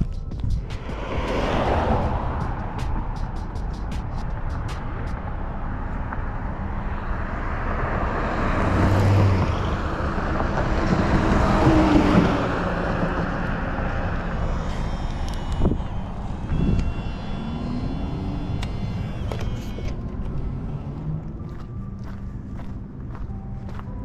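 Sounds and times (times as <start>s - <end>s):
motor vehicle passing: 0.0s - 23.9s.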